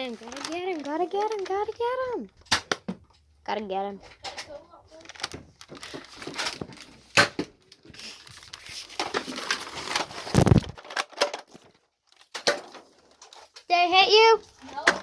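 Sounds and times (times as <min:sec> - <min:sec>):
rustling: 0:00.0 - 0:02.5, 0:04.0 - 0:15.0.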